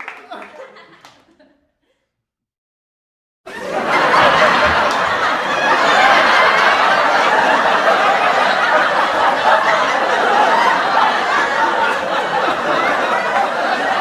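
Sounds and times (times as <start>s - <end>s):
studio audience laughing: 0.0s - 1.7s, 3.5s - 14.0s.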